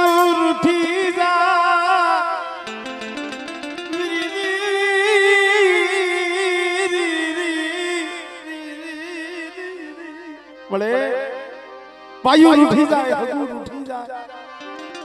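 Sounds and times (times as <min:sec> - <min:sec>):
person singing with vibrato: 0:00.0 - 0:14.5
musical accompaniment: 0:00.0 - 0:15.0.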